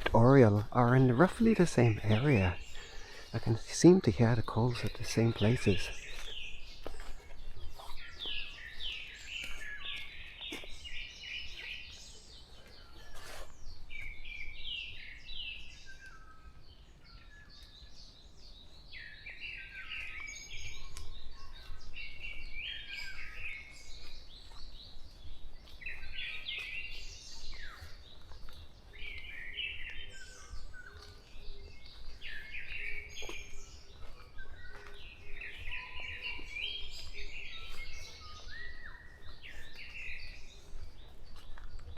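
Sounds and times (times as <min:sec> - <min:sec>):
songbirds chirping and whistling: 0:00.0 - 0:41.9.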